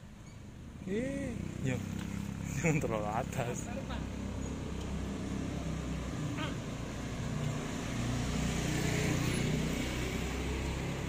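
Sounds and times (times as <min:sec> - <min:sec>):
vehicle engines humming: 0:00.0 - 0:11.0.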